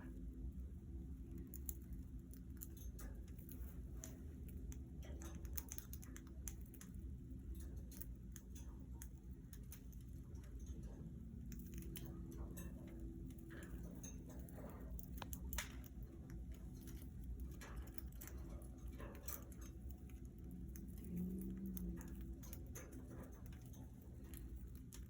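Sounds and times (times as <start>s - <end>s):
steady low hum: 0.0s - 25.0s
budgies clicking and scratching: 0.9s - 25.0s.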